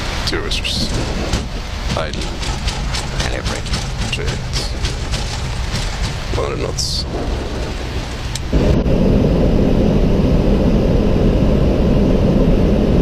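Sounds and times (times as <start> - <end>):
cockpit engine and airflow rumble: 0.0 - 13.0.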